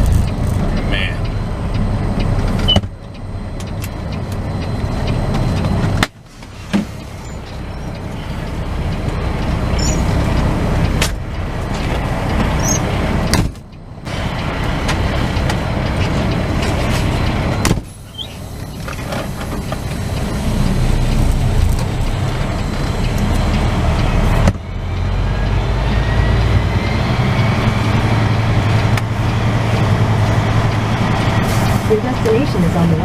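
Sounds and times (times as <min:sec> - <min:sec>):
diesel truck engine under load: 0:00.0 - 0:33.0.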